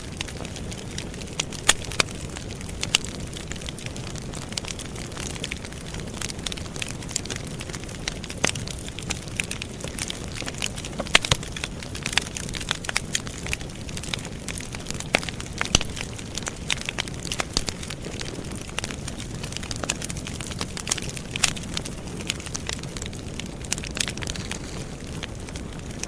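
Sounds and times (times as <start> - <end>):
campfire crackling and popping: 0.0 - 26.0
low rush of flame: 0.0 - 26.0.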